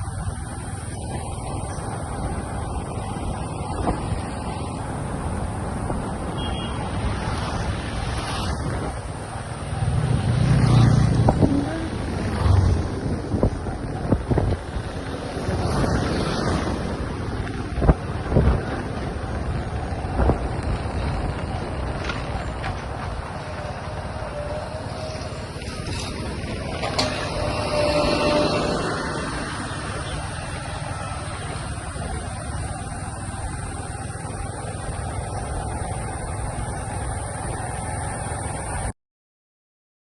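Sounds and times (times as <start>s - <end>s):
motorcycle engine rumble: 0.0s - 38.9s
wind rushing on microphone: 0.0s - 38.9s.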